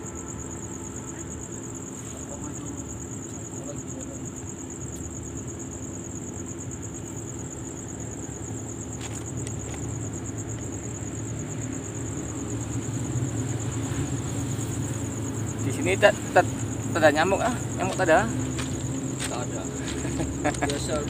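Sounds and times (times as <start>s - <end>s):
insect trill: 0.0s - 21.0s
vehicle traffic rumble: 0.0s - 21.0s.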